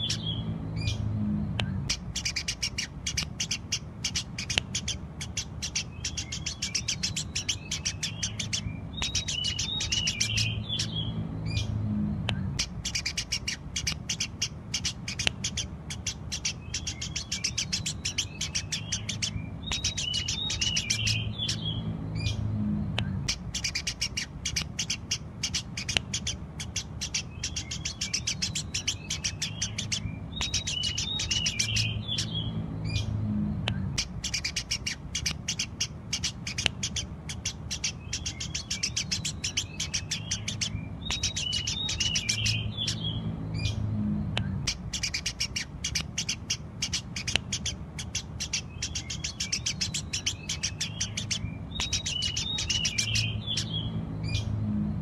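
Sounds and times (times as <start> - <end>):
low hum: 0.0 - 27.8, 28.4 - 35.1, 38.6 - 47.2, 50.0 - 55.0
lower twittering calls: 0.0 - 55.0
sparrows chirping rapidly: 0.0 - 55.0.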